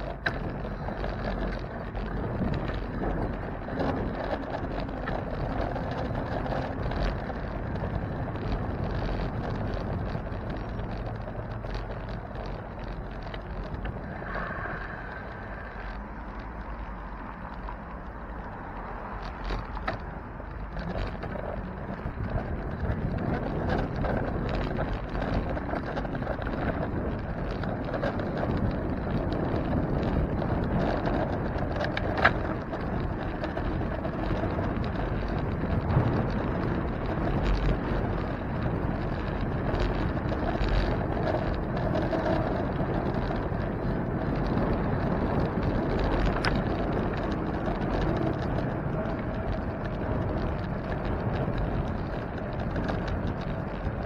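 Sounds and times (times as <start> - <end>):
bicycle rolling: 0.0 - 54.0
wind buffeting microphone: 0.0 - 54.0.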